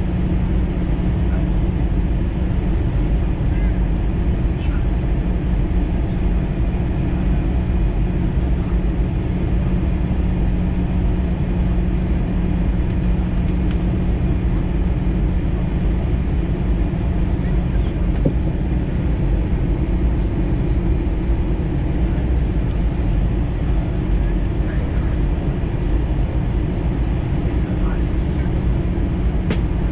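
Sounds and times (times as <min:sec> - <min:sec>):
jet engine drone: 0:00.0 - 0:29.9.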